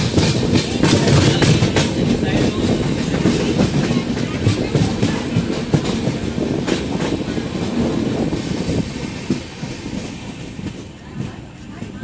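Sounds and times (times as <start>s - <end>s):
train rumble: 0.0s - 12.0s
wheels clicking over rails: 0.0s - 12.0s
wind: 0.0s - 12.0s.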